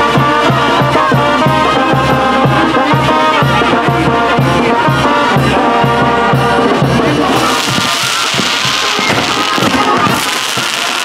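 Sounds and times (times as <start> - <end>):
brass band playing: 0.0 - 11.0.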